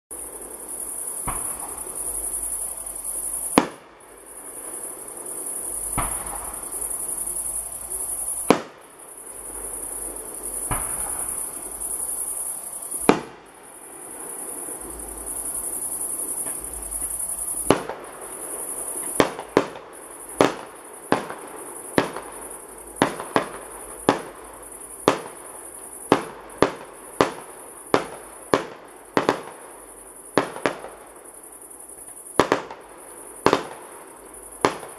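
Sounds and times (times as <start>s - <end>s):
crickets chirping: 0.1s - 34.9s
fireworks bursting with bangs: 0.1s - 34.9s.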